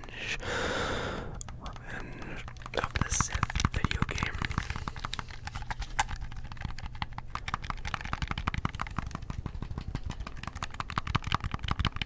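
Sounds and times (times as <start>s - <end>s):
keyboard typing clicks: 1.1s - 12.0s.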